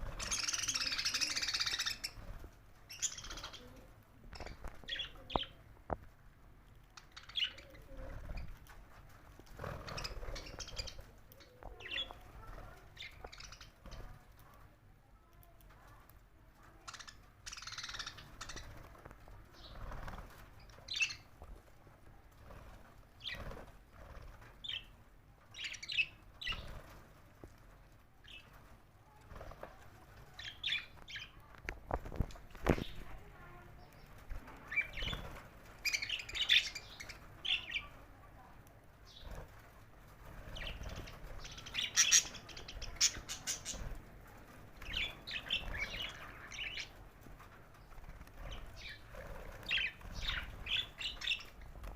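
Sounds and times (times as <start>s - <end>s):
wings fluttering: 0.0s - 14.7s, 15.6s - 51.9s.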